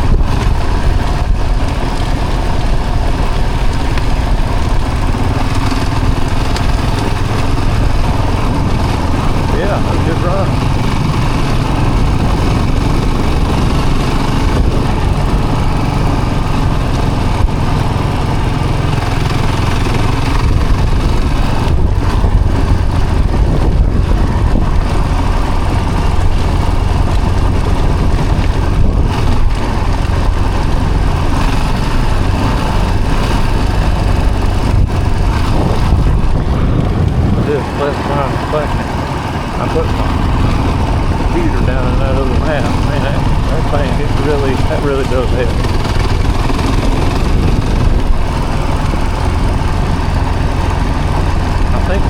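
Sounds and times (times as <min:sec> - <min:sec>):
road and wind noise: 0:00.0 - 0:52.0
vehicle engine humming: 0:00.0 - 0:52.0.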